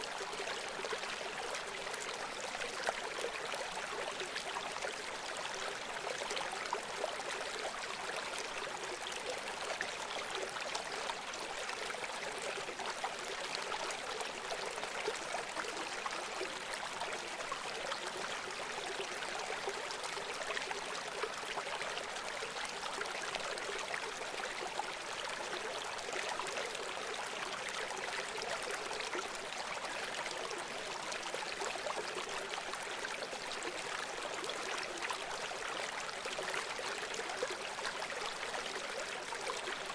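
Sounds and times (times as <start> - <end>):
stream of rushing water: 0.0 - 39.9.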